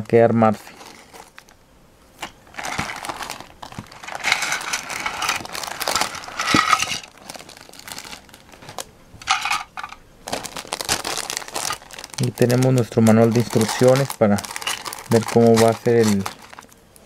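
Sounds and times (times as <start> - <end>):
plastic bags crinkling: 0.6 - 17.0.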